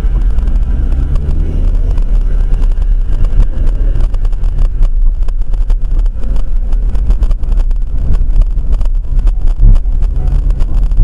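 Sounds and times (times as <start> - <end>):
car engine and road rumble: 0.0 - 11.0
knocks and rattles in car: 0.0 - 11.0.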